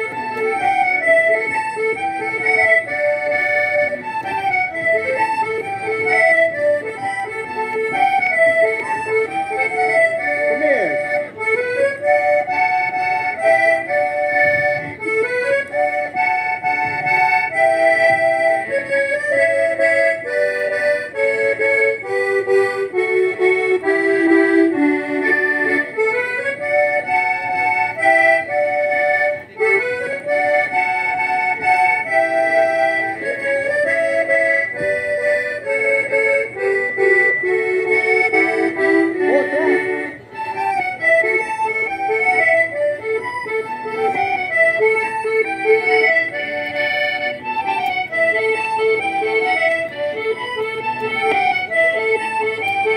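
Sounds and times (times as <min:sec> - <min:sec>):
accordion music: 0:00.0 - 0:52.9.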